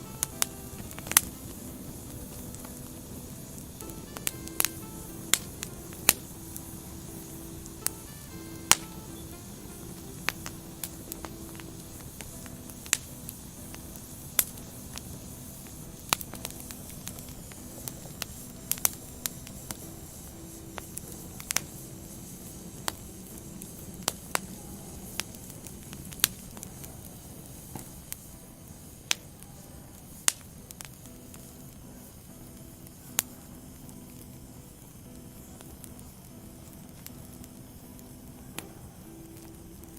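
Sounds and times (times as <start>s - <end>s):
firewood burning and crackling: 0.0s - 39.9s.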